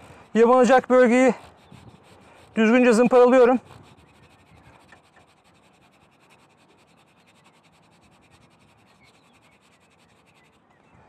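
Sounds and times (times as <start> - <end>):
sandpaper scratching rubber: 0.0 - 10.8.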